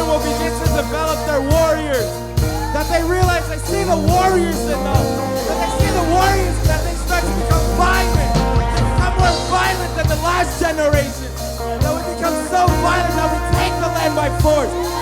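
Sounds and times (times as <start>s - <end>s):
band music: 0.0s - 15.0s
bass: 0.0s - 15.0s
steady drum beat: 0.0s - 15.0s.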